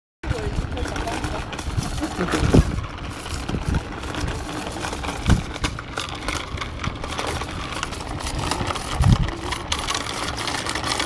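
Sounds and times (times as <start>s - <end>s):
bicycle rattling on asphalt: 0.2s - 11.0s.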